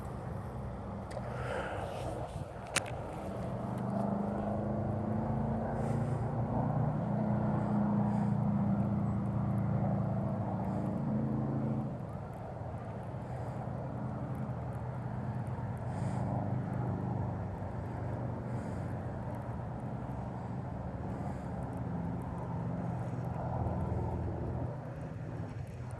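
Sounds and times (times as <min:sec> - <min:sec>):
distant engine drone: 0:00.0 - 0:25.9.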